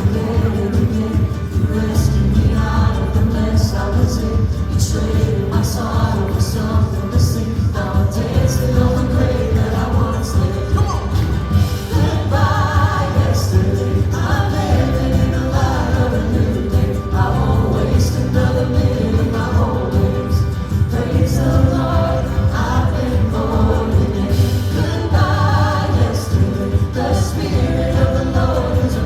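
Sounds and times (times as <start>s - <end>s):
band with strong bass: 0.0s - 29.0s
voices singing together: 0.0s - 29.0s.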